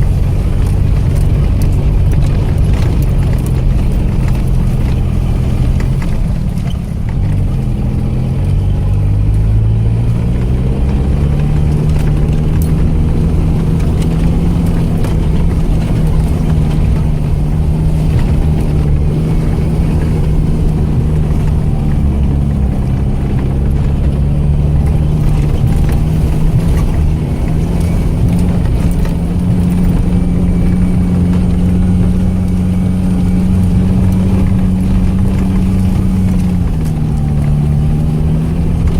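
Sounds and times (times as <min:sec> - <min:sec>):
off-road vehicle engine under load: 0:00.0 - 0:38.9.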